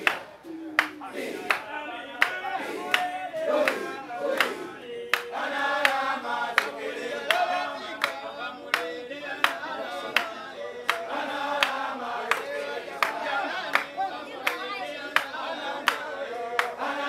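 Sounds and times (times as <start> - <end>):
group singing in chorus: 0.0 - 17.0
hand claps: 0.0 - 17.0.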